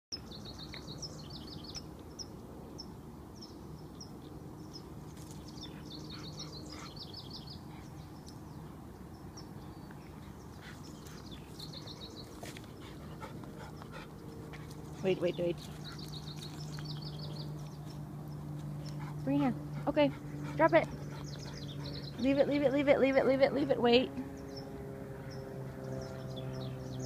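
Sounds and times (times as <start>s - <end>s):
small birds chirping: 0.1s - 27.0s
steady low hum: 0.2s - 27.0s.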